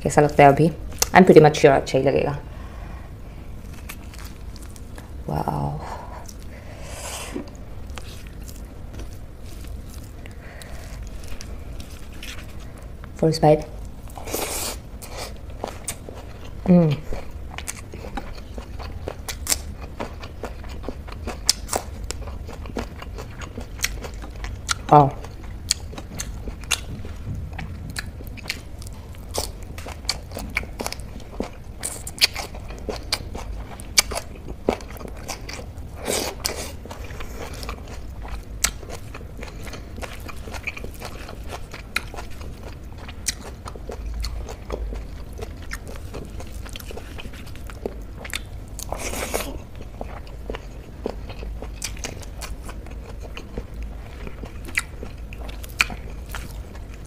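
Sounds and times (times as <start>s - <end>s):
soft chewing of food: 2.5s - 57.0s
spring onion crunching: 3.6s - 6.6s, 7.3s - 57.0s.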